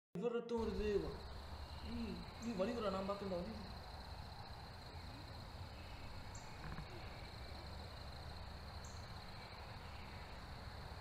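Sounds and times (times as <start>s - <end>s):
low background noise: 0.2s - 11.0s
insects trilling: 0.6s - 11.0s.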